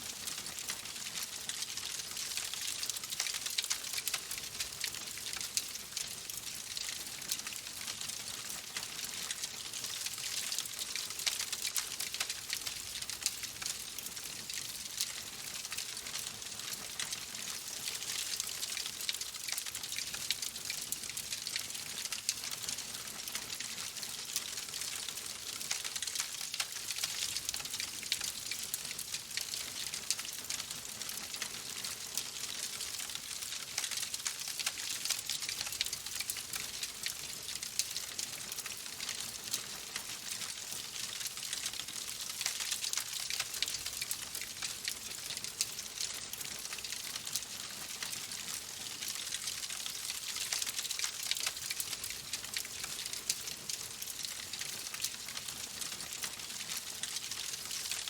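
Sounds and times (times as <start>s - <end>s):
wood fire crackling: 0.1s - 14.1s, 14.9s - 58.0s.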